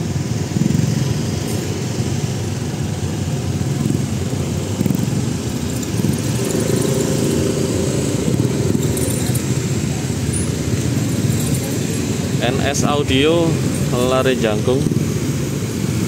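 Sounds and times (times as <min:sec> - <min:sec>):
motorbike and scooter engines: 0:00.0 - 0:16.0.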